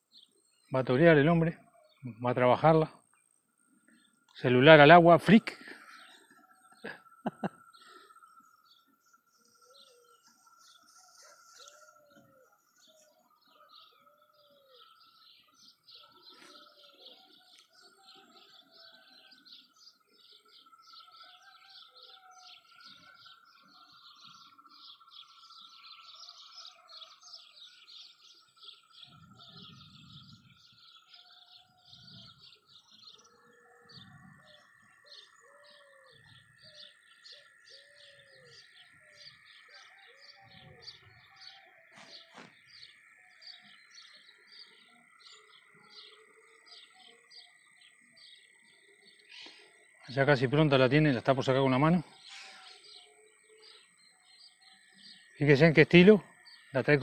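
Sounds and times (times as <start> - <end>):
small birds chirping: 0.0 - 57.0
lower arched bird call: 3.9 - 57.0.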